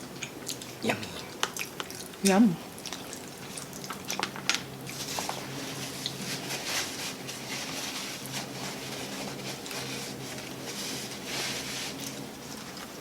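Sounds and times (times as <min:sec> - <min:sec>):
faint steady hum: 0:00.0 - 0:13.0
soft chewing noises: 0:00.0 - 0:13.0.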